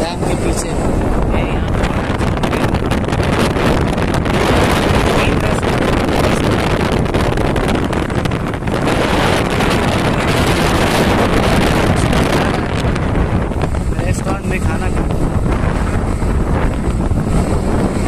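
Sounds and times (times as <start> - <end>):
motorcycle running: 0.0 - 18.0
road noise: 0.0 - 18.0
wind rushing over microphone: 0.0 - 18.0.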